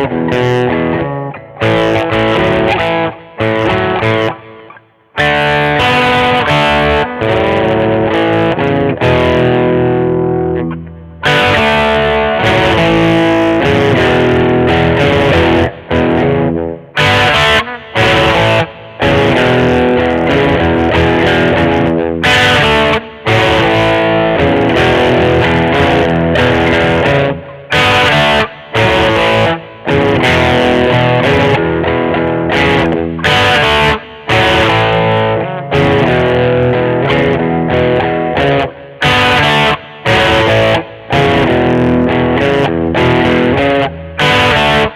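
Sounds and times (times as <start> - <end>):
electric guitar through amplifier: 0.0 - 44.9.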